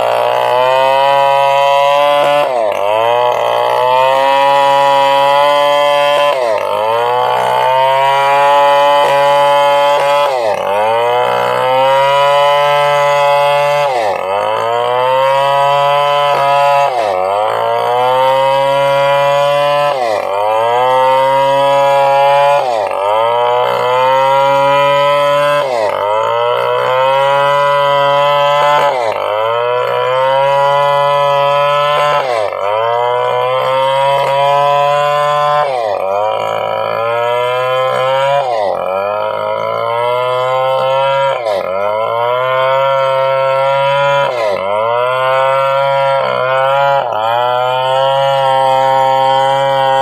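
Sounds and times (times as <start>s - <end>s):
chainsaw cutting wood under load: 0.0s - 50.0s.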